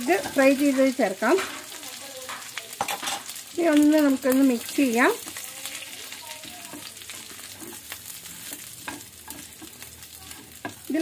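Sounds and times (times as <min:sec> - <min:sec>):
oil sizzling: 0:00.0 - 0:11.0
spatula scraping and tapping pan: 0:00.0 - 0:11.0.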